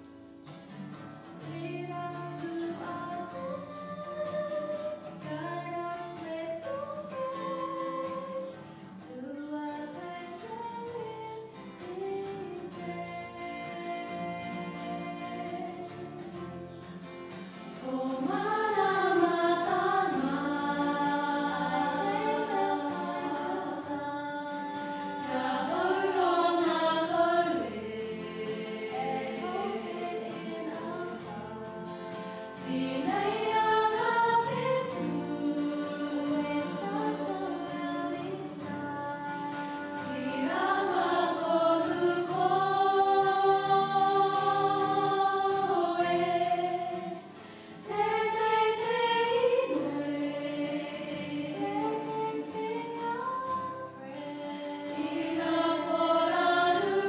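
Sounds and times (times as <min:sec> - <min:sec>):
girls' choir singing: 0:01.4 - 0:08.6, 0:17.7 - 0:57.0.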